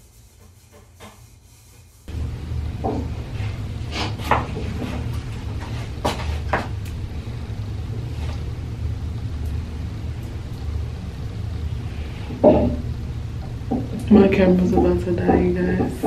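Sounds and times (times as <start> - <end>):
steady low rumble: 2.1 - 16.0.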